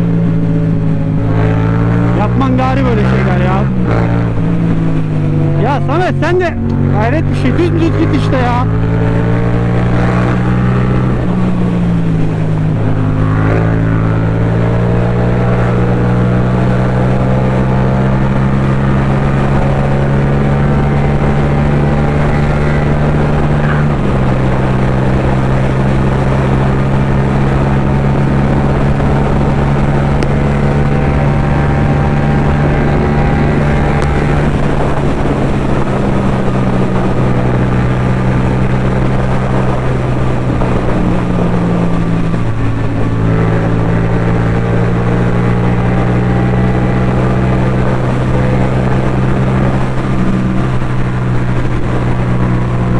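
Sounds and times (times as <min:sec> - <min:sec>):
motorcycle engine cruising: 0:00.0 - 0:52.9
wind rush: 0:00.0 - 0:52.9.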